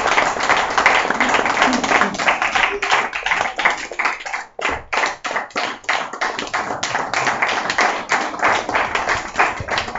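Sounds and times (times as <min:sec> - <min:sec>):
small audience applauding: 0:00.0 - 0:09.9.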